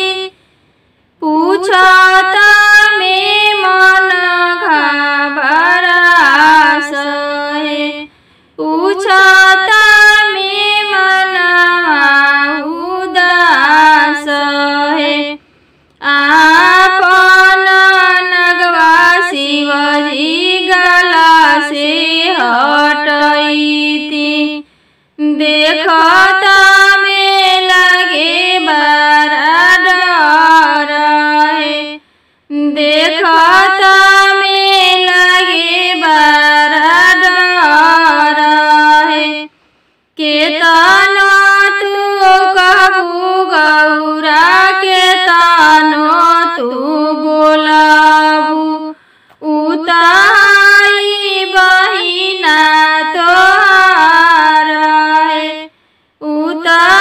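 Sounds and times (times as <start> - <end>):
woman singing unaccompanied: 0.0 - 0.4, 1.2 - 15.4, 16.0 - 39.6, 40.2 - 57.0.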